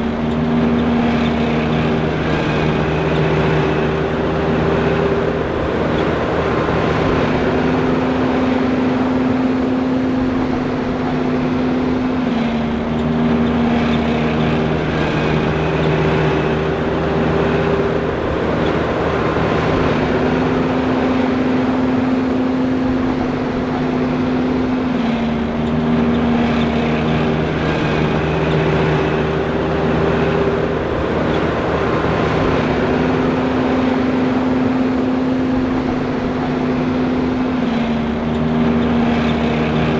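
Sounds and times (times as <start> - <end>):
forage harvester drone: 0.0 - 39.9.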